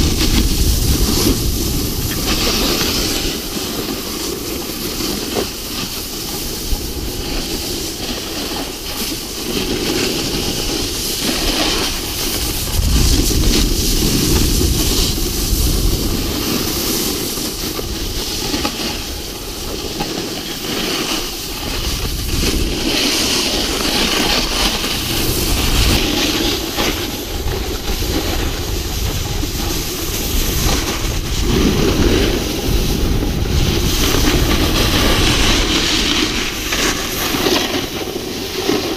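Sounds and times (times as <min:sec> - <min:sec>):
skis scraping packed snow: 0:00.0 - 0:38.9
wind rushing on microphone: 0:00.0 - 0:38.9.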